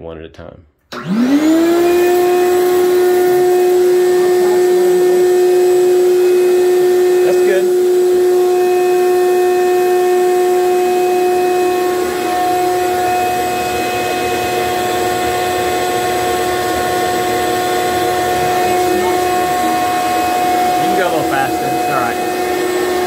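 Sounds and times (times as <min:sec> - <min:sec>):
shop vacuum whining: 0:00.9 - 0:23.0.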